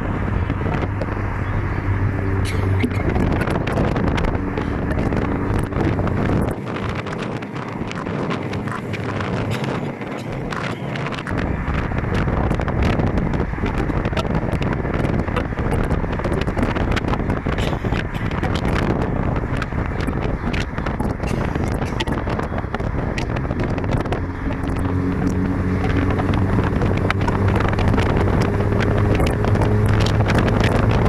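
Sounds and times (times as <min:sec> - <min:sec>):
road vehicle noise: 0:00.0 - 0:31.0
wind buffeting microphone: 0:00.0 - 0:31.0.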